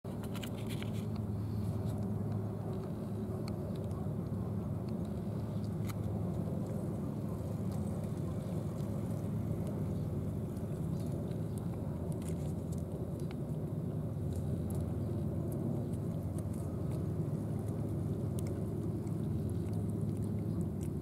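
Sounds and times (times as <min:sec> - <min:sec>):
low background rumble: 0:00.1 - 0:21.0.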